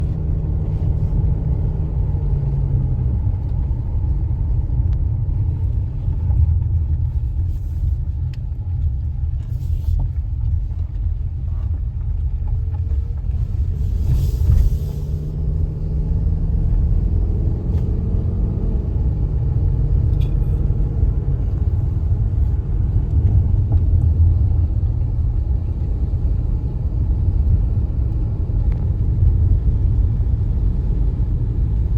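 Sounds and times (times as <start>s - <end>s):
vehicle engine rumble: 0.0s - 31.9s.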